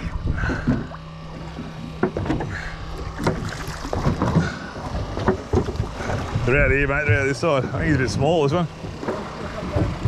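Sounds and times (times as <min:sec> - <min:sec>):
boat engine idling: 0:00.0 - 0:10.0
water noise: 0:00.0 - 0:10.0
wind: 0:00.0 - 0:10.0
sharp knocks on boat: 0:00.4 - 0:10.0.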